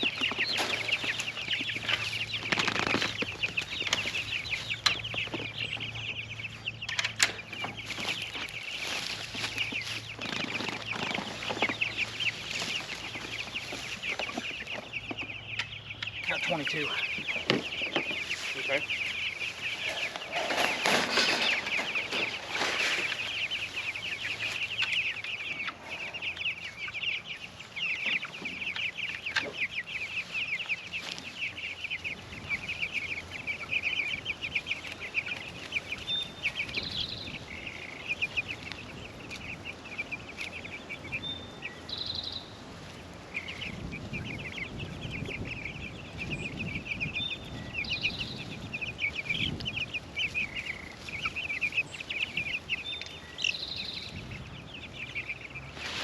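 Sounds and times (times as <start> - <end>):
chickens scuffling: 0.0 - 56.0
chicks peeping: 0.0 - 56.0.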